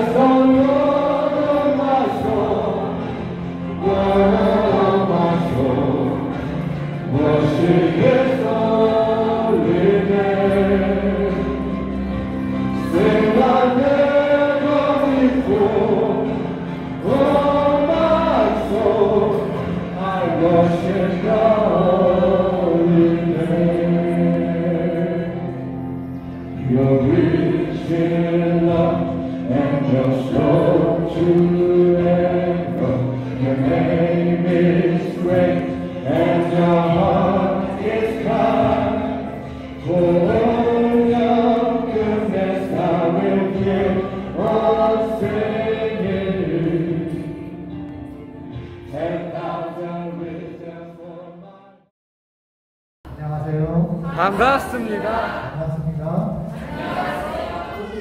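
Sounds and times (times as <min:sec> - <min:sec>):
group singing worship song: 0:00.0 - 0:25.8, 0:26.5 - 0:48.0, 0:48.6 - 0:51.7, 0:56.5 - 0:58.0.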